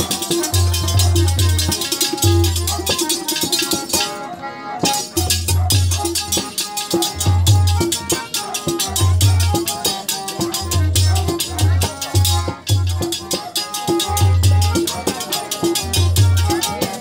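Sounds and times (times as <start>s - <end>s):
harmonium holding tones: 0.0s - 17.0s.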